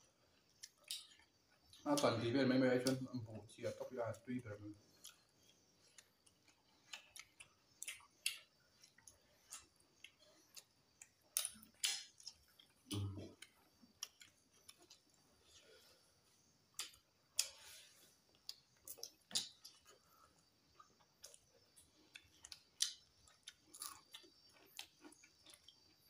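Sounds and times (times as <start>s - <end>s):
wet chewing and lip smacks: 0.3s - 1.8s, 4.8s - 15.6s, 16.3s - 26.0s.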